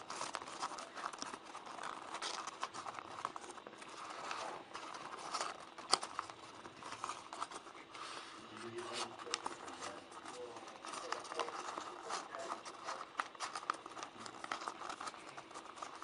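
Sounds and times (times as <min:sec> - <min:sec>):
paper crease clicks: 0:00.0 - 0:16.0
paper rustling and crinkling: 0:00.0 - 0:16.0.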